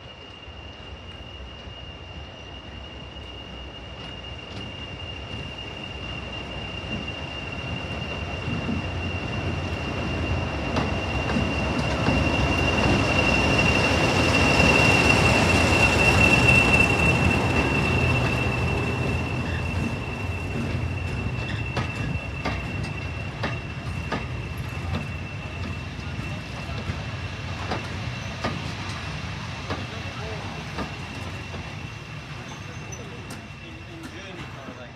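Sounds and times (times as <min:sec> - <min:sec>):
diesel train passing: 0:00.0 - 0:34.9
high-pitched wheel squeal: 0:01.0 - 0:34.8.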